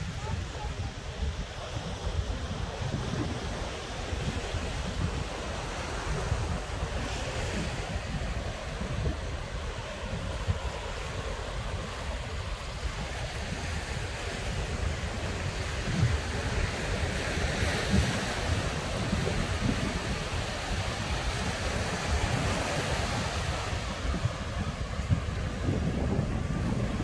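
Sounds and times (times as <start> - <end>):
ocean surf on sand: 0.0 - 27.0
wind buffeting microphone: 0.0 - 27.0.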